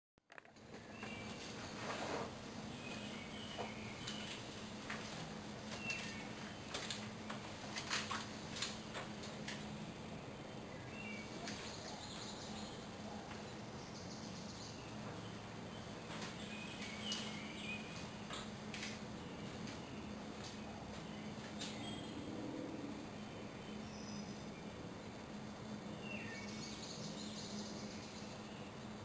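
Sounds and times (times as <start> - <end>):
steady low hum: 0.3 - 29.0.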